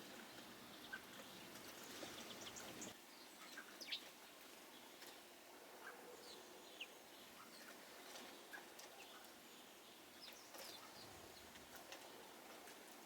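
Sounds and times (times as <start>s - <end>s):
background hiss: 0.0s - 13.0s
small birds chirping: 0.0s - 13.0s.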